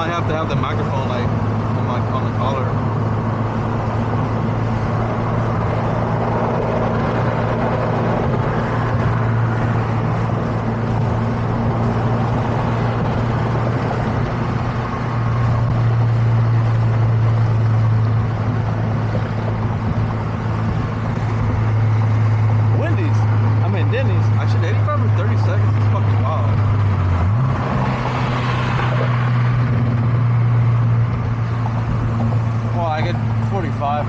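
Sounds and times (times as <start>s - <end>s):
car engine droning: 0.0s - 34.0s
wind and road noise: 0.0s - 34.0s.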